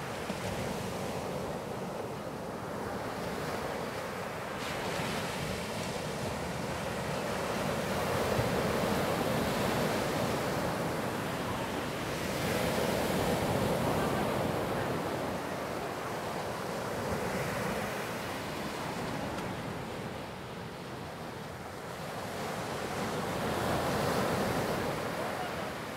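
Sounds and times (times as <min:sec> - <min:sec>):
waves breaking on sand: 0:00.0 - 0:25.9.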